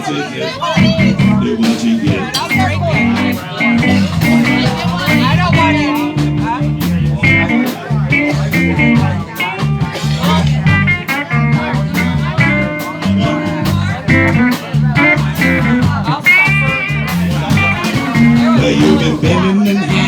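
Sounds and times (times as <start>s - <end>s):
live blues band playing: 0.6s - 20.0s.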